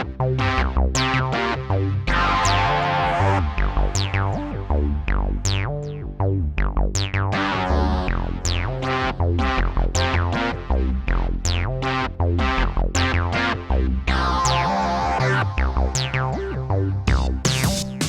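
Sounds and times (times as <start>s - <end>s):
electronic music with synthesizer: 0.0s - 18.0s.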